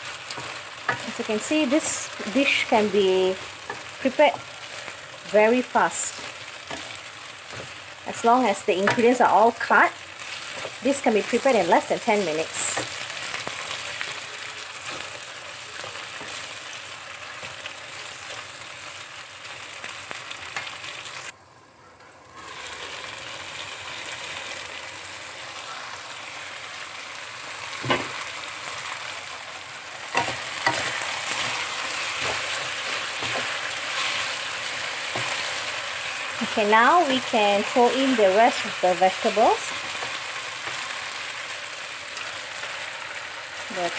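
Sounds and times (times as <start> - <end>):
food sizzling in a pan: 0.0 - 21.3, 22.2 - 43.9.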